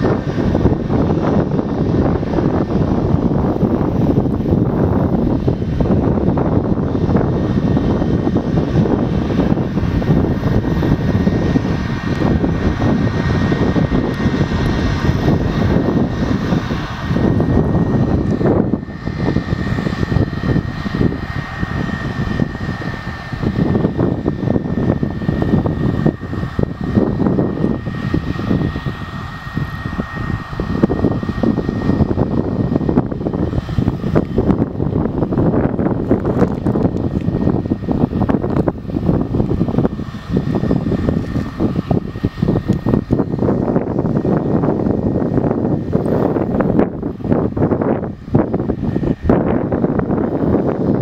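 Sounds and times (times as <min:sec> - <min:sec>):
jet engines running: 0:00.0 - 0:51.0.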